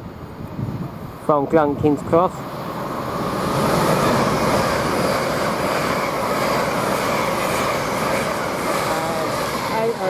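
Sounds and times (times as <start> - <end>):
electric train passing at speed: 0.0 - 10.0.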